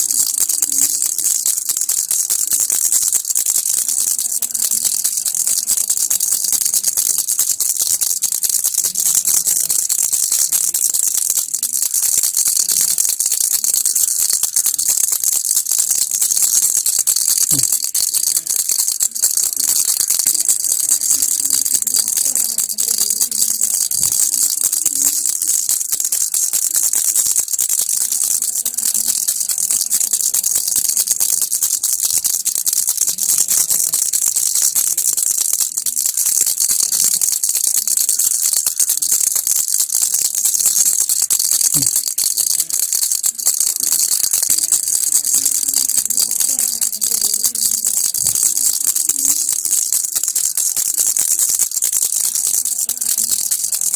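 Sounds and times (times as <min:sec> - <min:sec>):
baby rattle shaking: 0:00.0 - 0:53.9.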